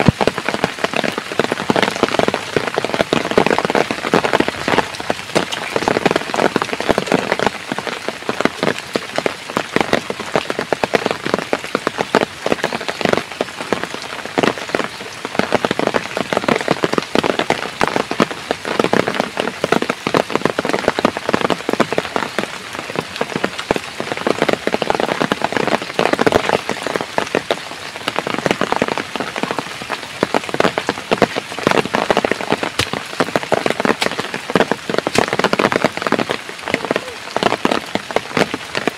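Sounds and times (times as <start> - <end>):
heavy rain on a surface: 0.0 - 38.9.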